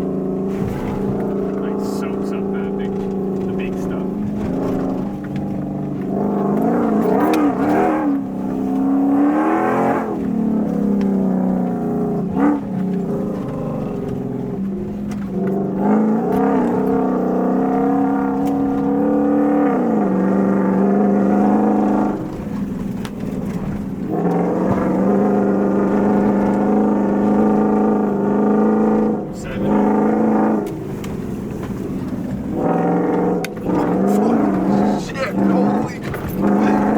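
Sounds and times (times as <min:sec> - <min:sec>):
pickup truck engine off-road: 0:00.0 - 0:36.9.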